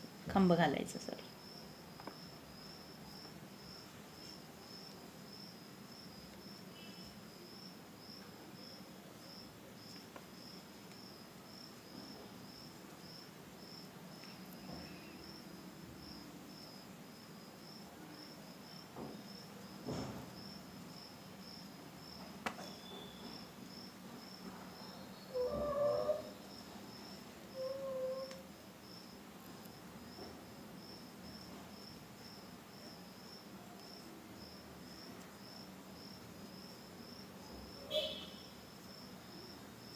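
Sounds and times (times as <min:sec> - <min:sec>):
insect chirping: 0:01.3 - 0:19.8, 0:20.4 - 0:30.2, 0:30.8 - 0:39.9.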